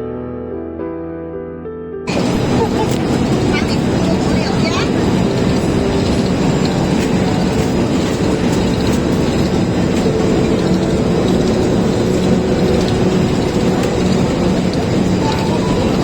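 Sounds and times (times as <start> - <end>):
machinery rattling clatter: 2.1 - 16.0.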